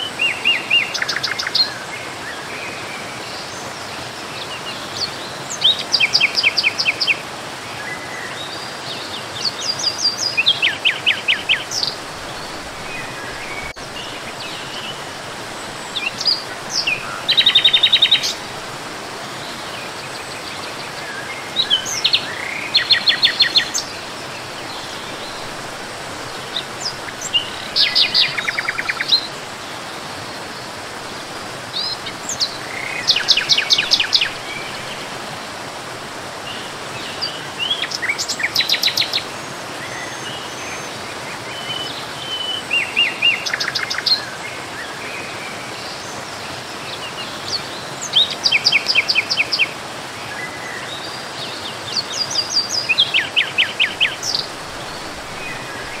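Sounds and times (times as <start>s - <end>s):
songbirds singing: 0.0s - 56.0s
steady background hiss: 0.0s - 56.0s.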